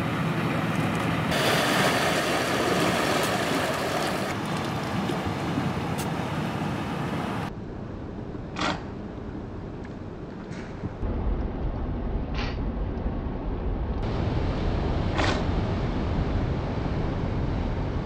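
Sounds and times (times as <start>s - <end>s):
steady rushing background noise: 0.0s - 18.0s.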